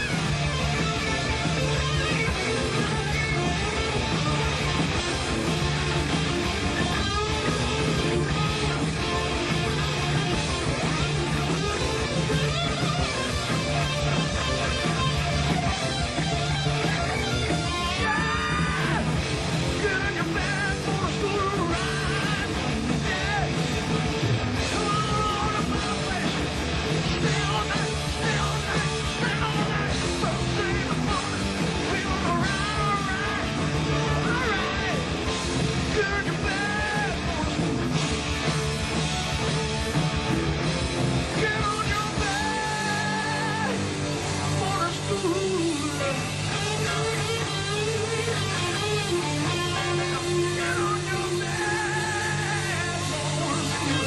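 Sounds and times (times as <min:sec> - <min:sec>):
person singing and yelling: 0:00.0 - 0:37.9, 0:41.2 - 0:54.0
electric guitar: 0:00.0 - 0:54.0
hard rock band playing: 0:00.0 - 0:54.0.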